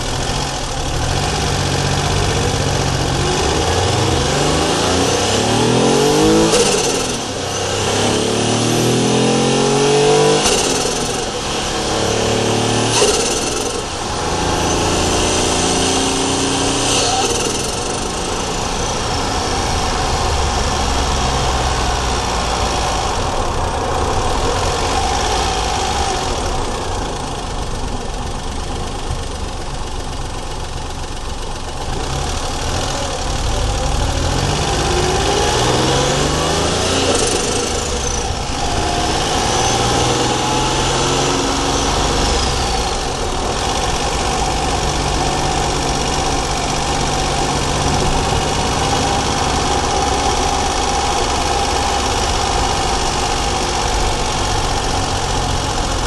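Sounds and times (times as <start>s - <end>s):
turbocharged engine revving: 0.0s - 29.7s, 31.7s - 56.0s.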